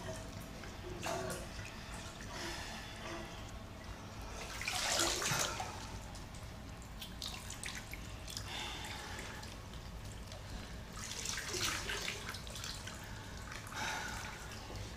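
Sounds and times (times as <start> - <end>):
water sloshing in bathtub: 0.0 - 14.9.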